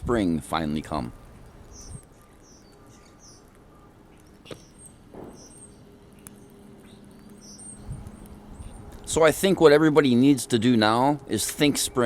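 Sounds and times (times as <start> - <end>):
small birds chirping: 0.6 - 12.0.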